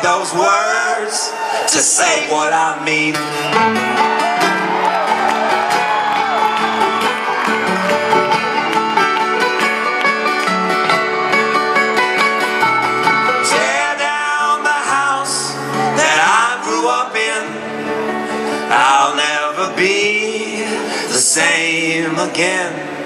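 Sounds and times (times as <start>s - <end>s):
picked banjo and guitar: 0.0s - 23.0s.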